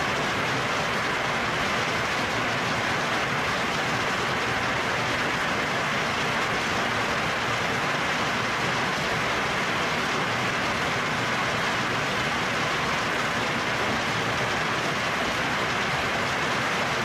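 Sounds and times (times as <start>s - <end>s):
hail and rain on foliage: 0.0s - 17.0s.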